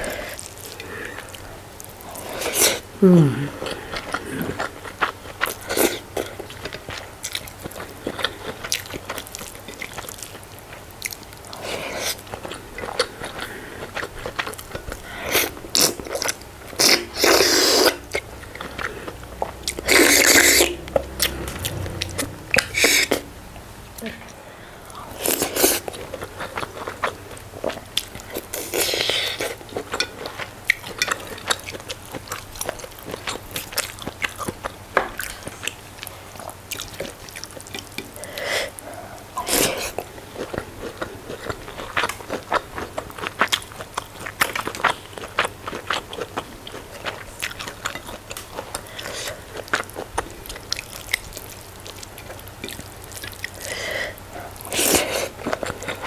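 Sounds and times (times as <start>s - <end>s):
wet chewing and lip-smacking: 3.6s - 23.3s, 24.9s - 56.0s.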